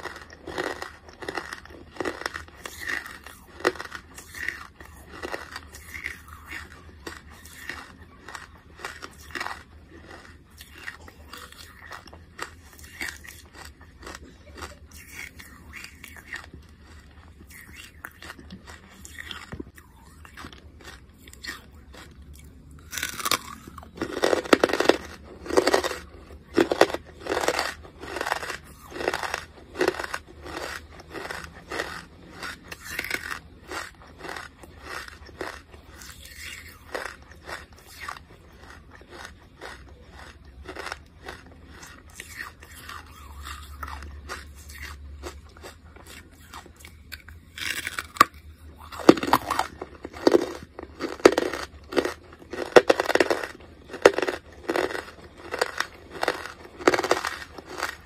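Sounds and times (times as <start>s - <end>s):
crunching and chewing charcoal: 0.0s - 58.0s.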